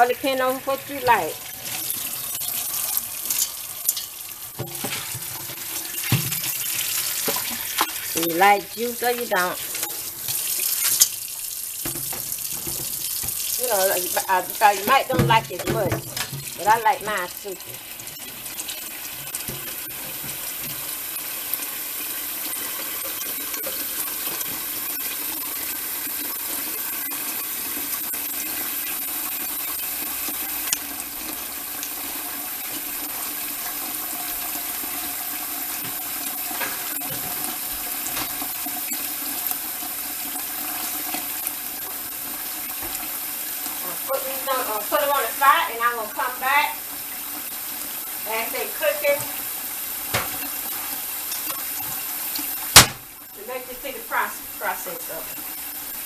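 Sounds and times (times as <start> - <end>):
faucet water filling a pot: 0.0 - 56.0.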